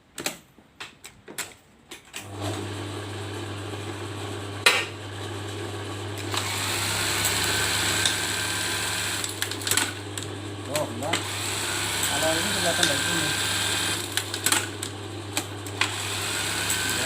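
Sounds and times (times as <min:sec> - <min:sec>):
sewing machine humming: 0:02.2 - 0:17.0.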